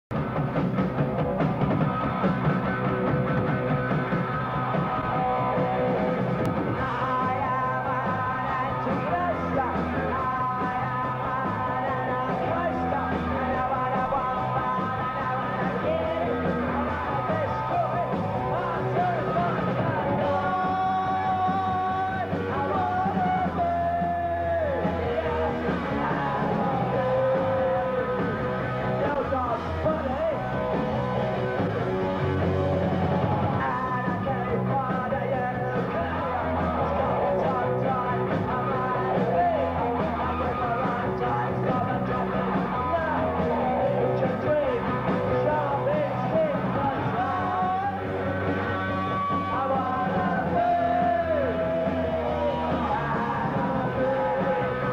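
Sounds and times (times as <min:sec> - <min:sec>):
punk rock band playing: 0:00.1 - 0:54.9
man singing lead vocals: 0:01.4 - 0:54.9.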